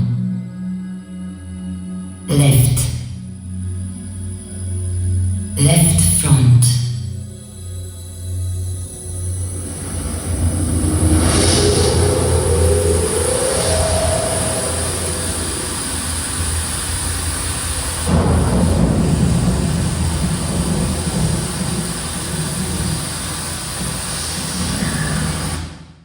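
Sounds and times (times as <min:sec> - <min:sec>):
deep rumbling effect: 0:00.0 - 0:01.0, 0:02.2 - 0:25.7.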